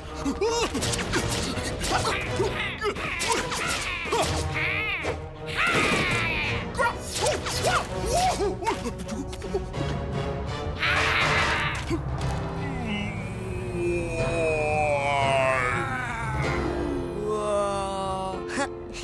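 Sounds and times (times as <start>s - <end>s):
cartoon background music: 0.0s - 19.0s.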